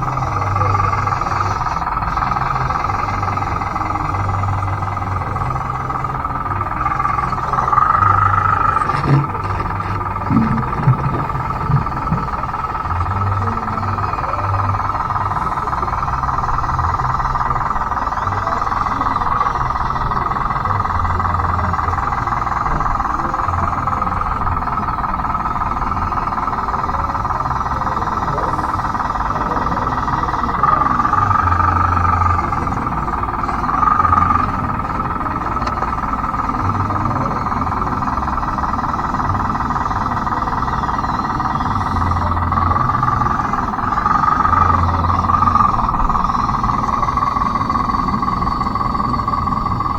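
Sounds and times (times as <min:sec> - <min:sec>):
electric motors whining: 0:00.0 - 0:49.9
pulsing low hum: 0:00.0 - 0:49.9.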